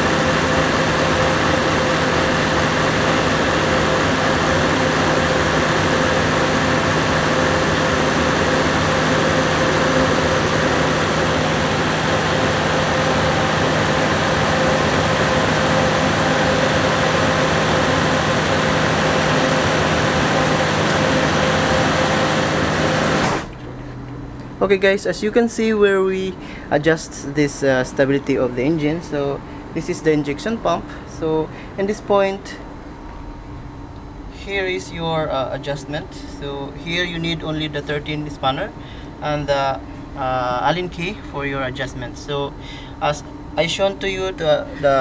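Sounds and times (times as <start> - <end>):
diesel generator engine running: 0.0 - 24.9, 25.9 - 45.0.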